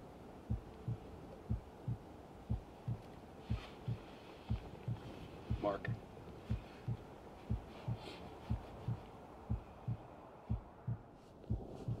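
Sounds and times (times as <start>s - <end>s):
slow heartbeat thumps: 0.4s - 12.0s.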